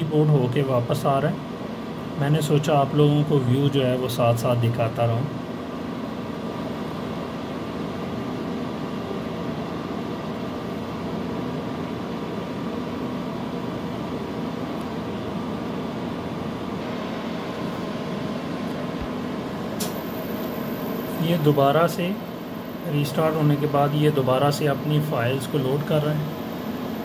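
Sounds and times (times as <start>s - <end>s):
faint hum: 0.0s - 27.0s
server cooling fans: 0.0s - 27.0s.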